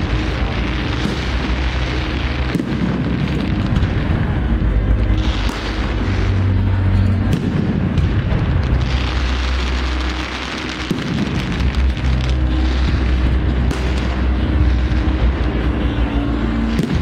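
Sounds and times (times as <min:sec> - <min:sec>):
fireworks booming and crackling: 0:00.0 - 0:17.0
low rumble: 0:00.0 - 0:17.0.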